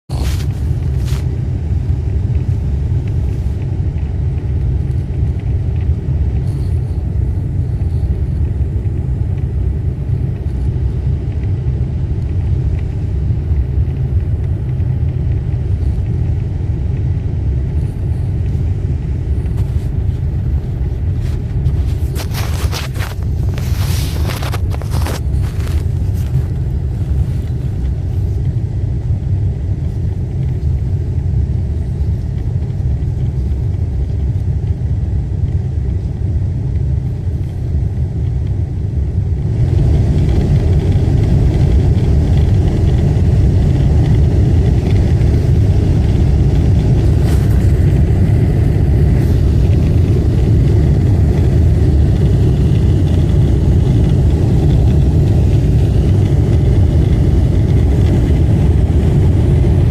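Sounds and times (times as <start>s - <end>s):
car engine rumbling: 0.0s - 59.9s.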